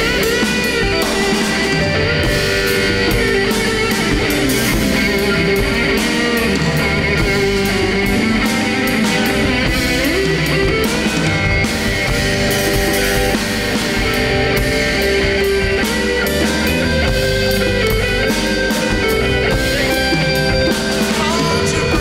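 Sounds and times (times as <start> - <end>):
electric guitar: 0.0 - 22.0
live rock band playing: 0.0 - 22.0.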